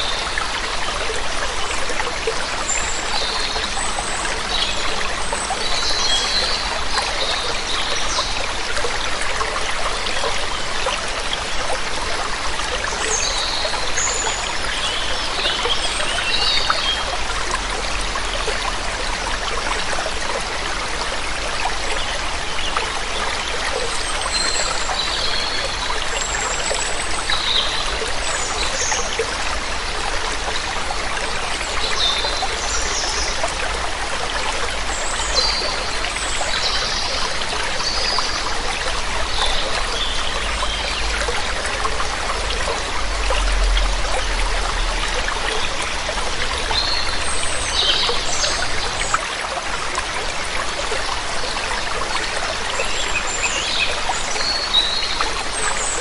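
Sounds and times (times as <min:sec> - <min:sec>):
water splashing over waterfall: 0:00.0 - 0:56.0.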